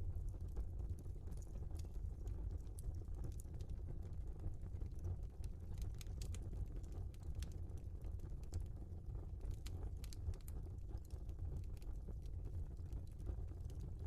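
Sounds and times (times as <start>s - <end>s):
log fire crackling: 0.0s - 14.0s.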